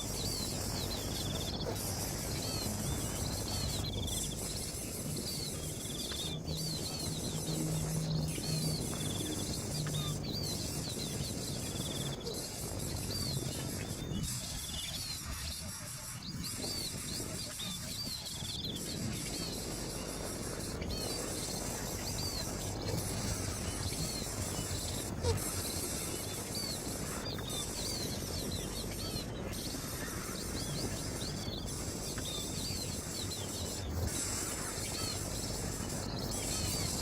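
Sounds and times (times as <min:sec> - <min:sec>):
bird chirping and trilling: 0:00.0 - 0:37.0
steady background rustle: 0:00.0 - 0:37.0.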